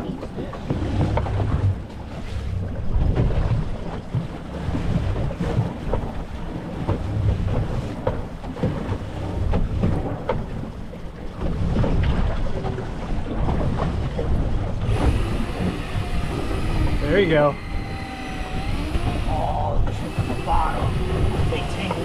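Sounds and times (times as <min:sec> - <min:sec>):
water sloshing against boat hull: 0:00.0 - 0:22.0
wind buffeting microphone: 0:00.0 - 0:22.0.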